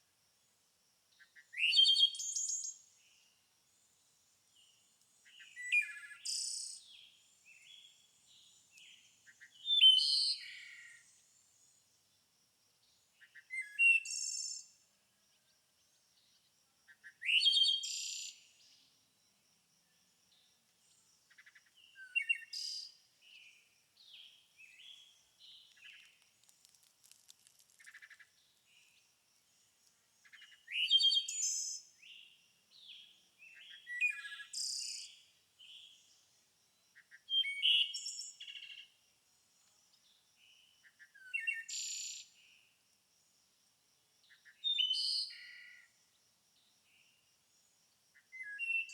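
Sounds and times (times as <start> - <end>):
songbird singing: 1.1 - 42.8, 44.2 - 48.9.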